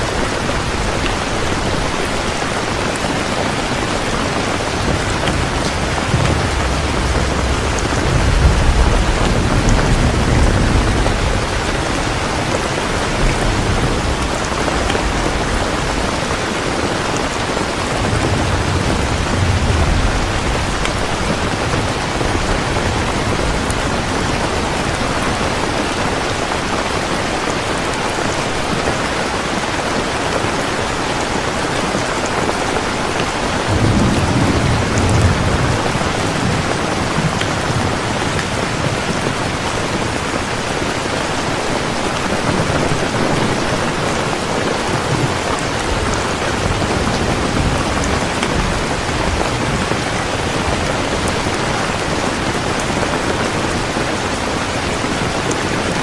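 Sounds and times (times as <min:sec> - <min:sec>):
thunder rumbling: 0:00.0 - 0:29.4, 0:30.0 - 0:56.0
heavy rain: 0:00.0 - 0:56.0.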